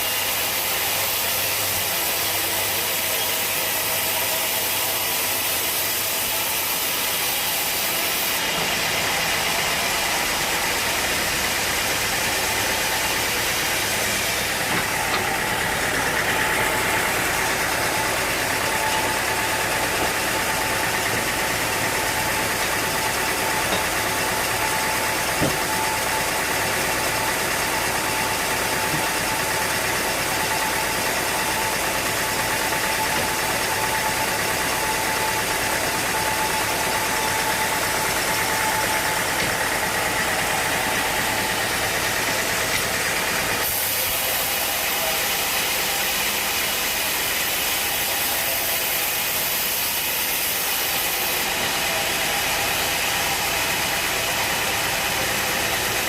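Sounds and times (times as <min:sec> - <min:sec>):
sawmill machinery droning: 0:00.0 - 0:56.0
steady machine whine: 0:00.0 - 0:56.0.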